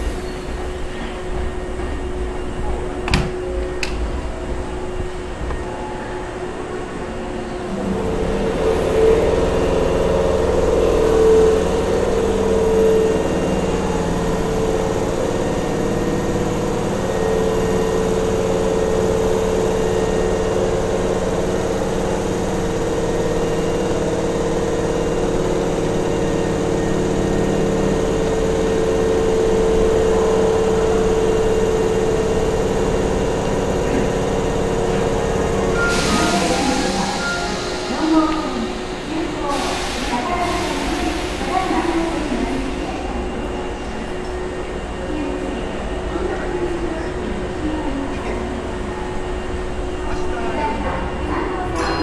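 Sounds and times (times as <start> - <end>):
train equipment humming: 0.0 - 52.0.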